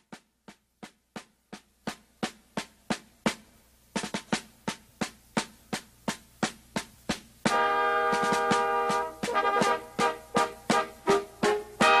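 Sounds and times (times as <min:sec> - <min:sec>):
drum tapping march beat: 0:00.0 - 0:12.0.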